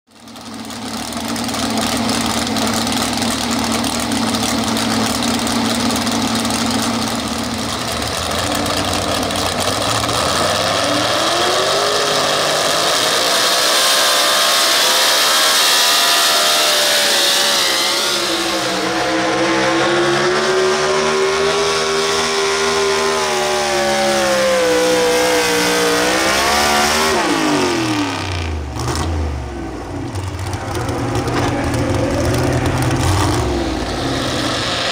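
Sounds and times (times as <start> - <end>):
truck engine revving: 1.0 - 34.9.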